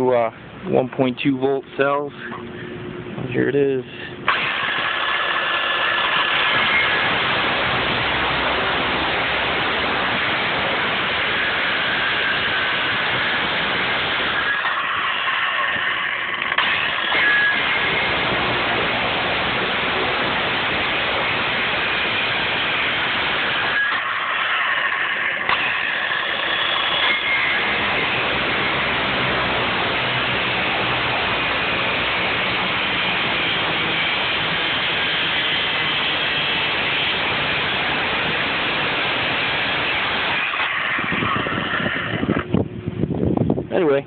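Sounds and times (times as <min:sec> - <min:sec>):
circular saw cutting wood: 0:04.3 - 0:42.6.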